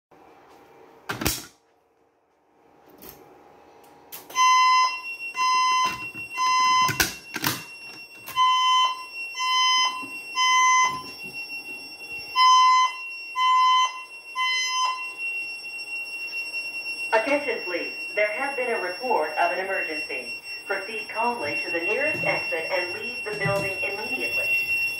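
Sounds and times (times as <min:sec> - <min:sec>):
evacuation alarm beeps: 0:04.2 - 0:24.9.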